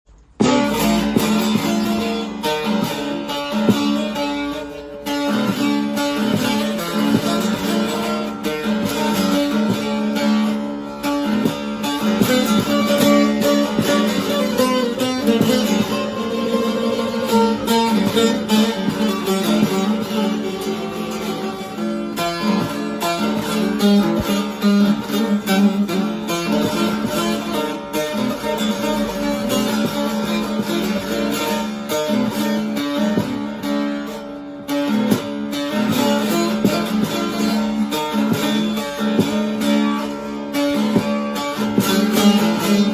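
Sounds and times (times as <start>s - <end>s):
plucked lute with drone: 0.1s - 42.9s.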